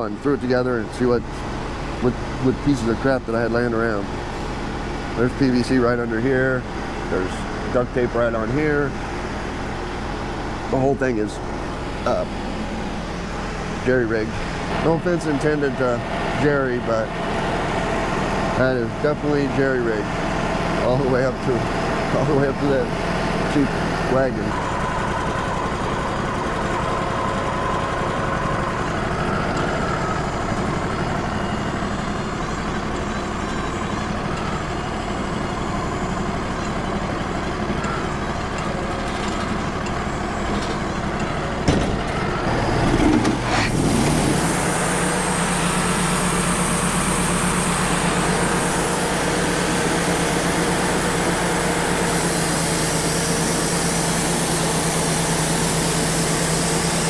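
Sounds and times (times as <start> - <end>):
sawmill running: 0.0 - 57.0.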